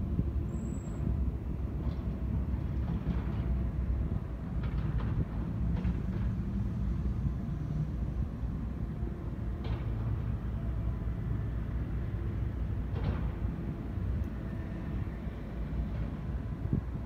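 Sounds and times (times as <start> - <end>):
distant diesel engines rumbling: 0.0 - 17.0.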